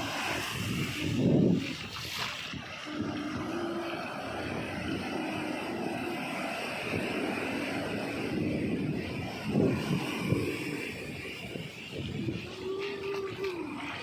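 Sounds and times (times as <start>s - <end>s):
small waves breaking on beach: 0.0s - 14.0s
steady engine drone: 0.0s - 14.0s.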